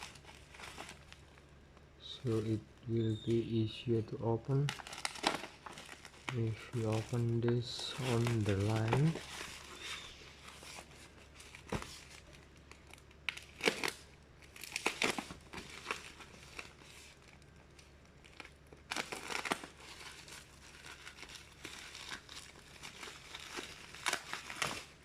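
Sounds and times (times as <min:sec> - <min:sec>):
packaging tearing and crinkling: 0:00.0 - 0:01.4, 0:04.5 - 0:25.0.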